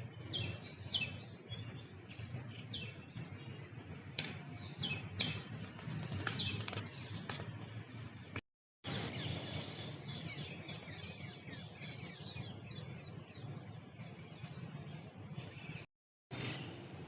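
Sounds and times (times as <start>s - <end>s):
many birds chirping: 0.0s - 16.9s.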